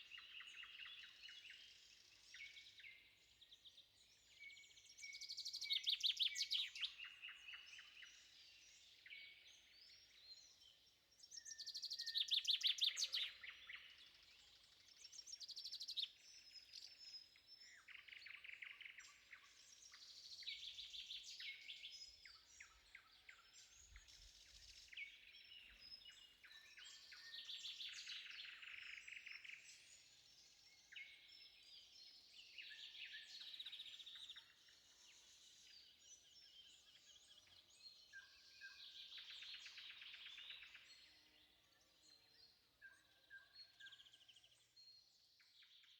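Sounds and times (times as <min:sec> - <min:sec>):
songbirds trilled song: 0:00.0 - 0:45.9.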